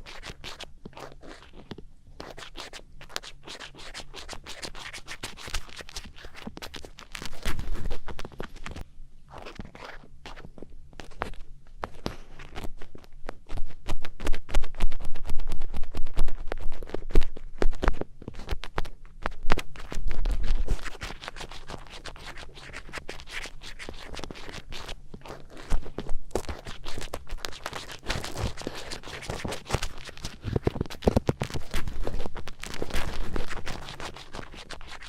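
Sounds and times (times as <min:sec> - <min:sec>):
close scratching and scraping: 0:00.0 - 0:35.0.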